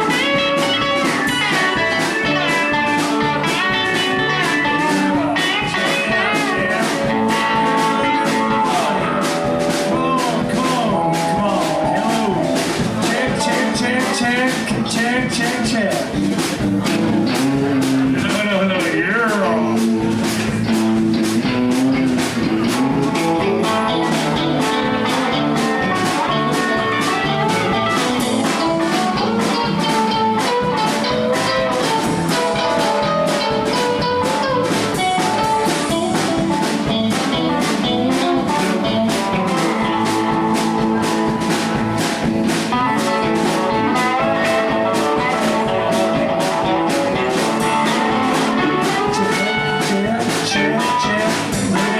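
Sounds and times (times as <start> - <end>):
blues guitar: 0.0 - 51.9
drum kit beat: 0.0 - 51.9.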